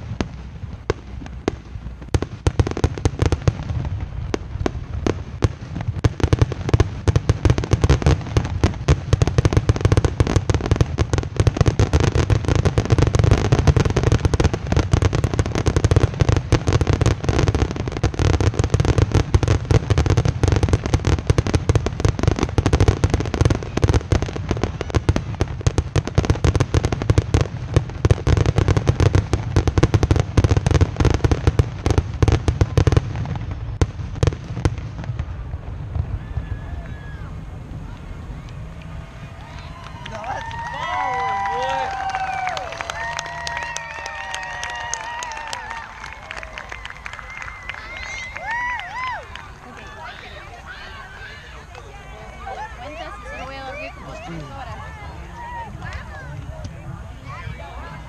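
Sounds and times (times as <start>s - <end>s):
fireworks barrage: 0.0s - 58.0s.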